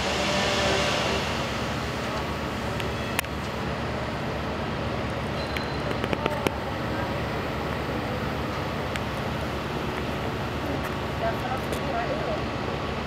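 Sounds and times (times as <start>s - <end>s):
fire truck engine droning: 0.0s - 13.0s.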